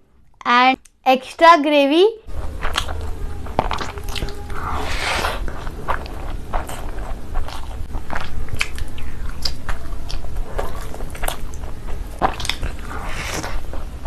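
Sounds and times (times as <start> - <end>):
wet chewing and smacking: 2.3 - 14.0.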